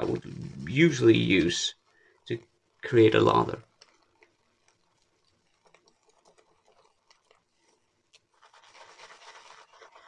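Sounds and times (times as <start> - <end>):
shaving brush swishing in bowl: 0.4 - 10.0.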